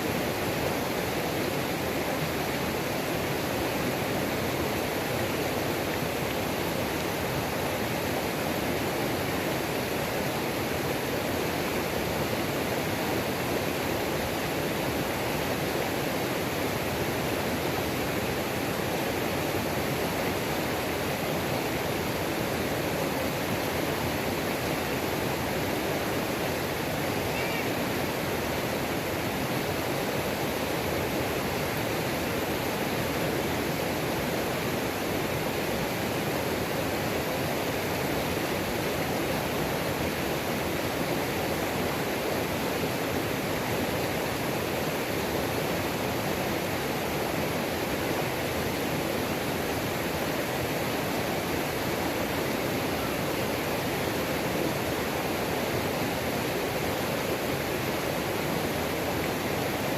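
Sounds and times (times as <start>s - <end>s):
waterfall splashing over rocks: 0.0s - 59.9s.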